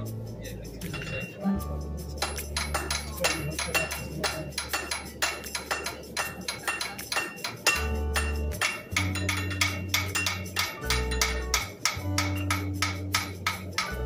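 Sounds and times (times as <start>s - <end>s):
hammer ringing on anvil: 2.2s - 14.0s.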